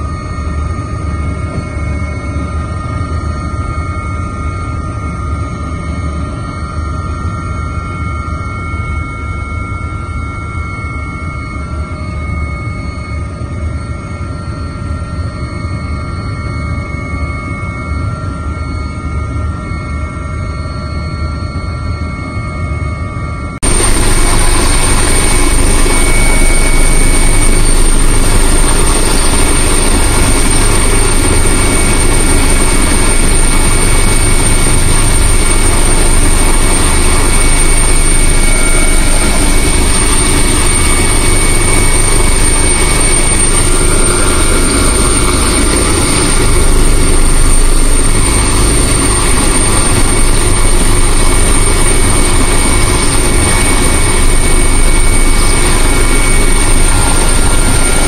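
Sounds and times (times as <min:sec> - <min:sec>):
helicopter rotor and engine drone: 0:00.0 - 0:58.0
high-pitched whine: 0:00.0 - 0:58.0.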